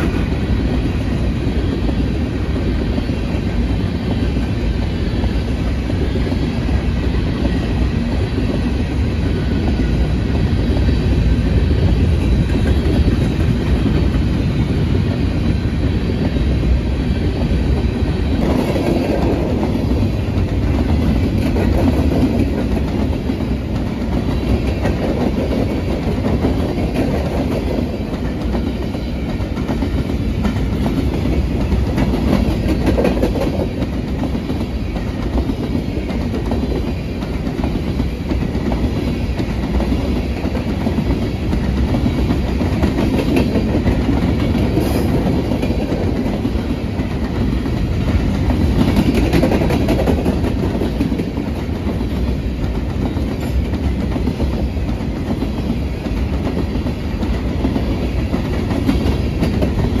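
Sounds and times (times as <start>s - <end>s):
freight train rumbling past: 0.0s - 60.0s.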